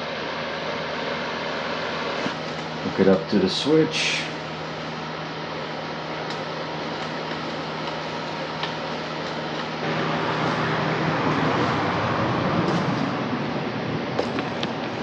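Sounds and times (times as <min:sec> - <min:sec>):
fan-like hum: 0:00.0 - 0:15.0.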